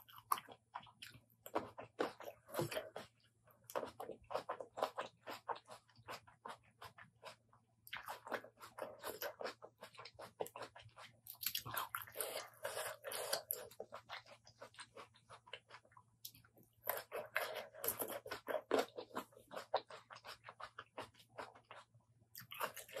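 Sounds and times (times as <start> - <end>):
chewing and mouth clicks: 0.0 - 23.0.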